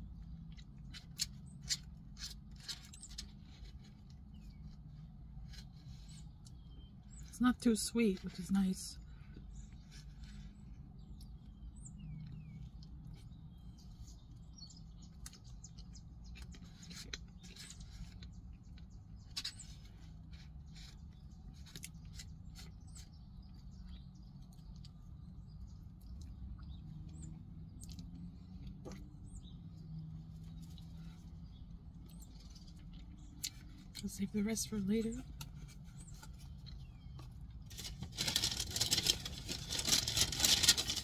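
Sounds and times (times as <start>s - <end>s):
low steady car hum: 0.0s - 41.0s
faint bird chirps: 0.1s - 37.4s.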